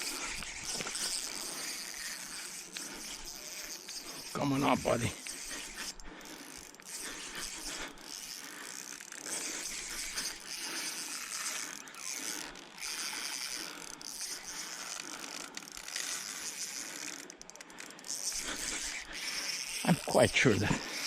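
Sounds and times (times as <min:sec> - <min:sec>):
fishing reel ticking and whirring: 0:00.0 - 0:21.0.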